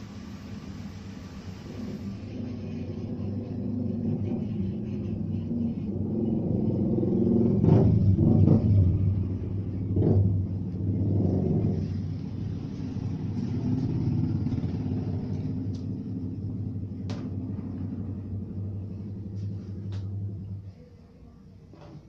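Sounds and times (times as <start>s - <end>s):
low engine-like rumble: 0.0s - 22.0s.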